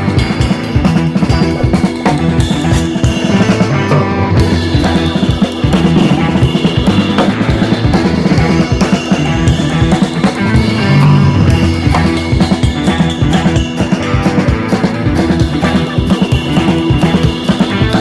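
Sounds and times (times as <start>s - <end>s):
rock music with drums and bass: 0.0s - 18.0s.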